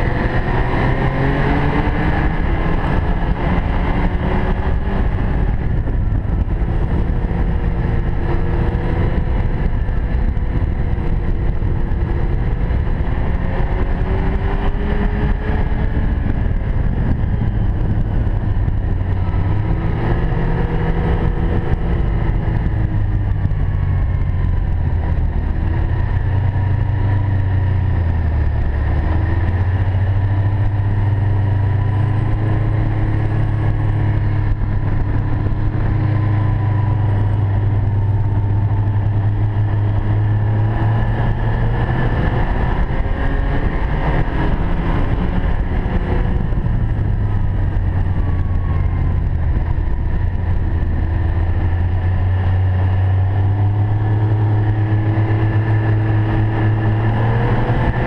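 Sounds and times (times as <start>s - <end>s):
deep engine drone: 0.0s - 58.0s
snowmobile engine running: 0.0s - 58.0s.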